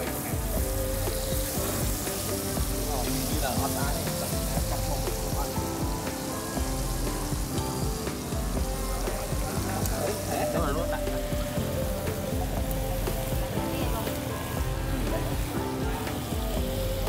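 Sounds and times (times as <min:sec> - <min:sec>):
background music: 0:00.0 - 0:17.0
meat sizzling on a grill: 0:00.0 - 0:17.0
people chattering: 0:00.0 - 0:17.0.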